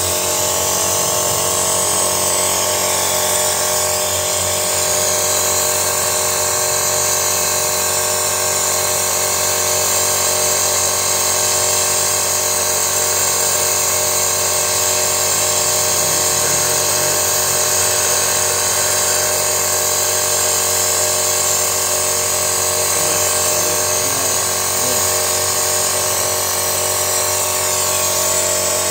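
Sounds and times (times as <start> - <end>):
small electric pump whining: 0.0 - 28.9.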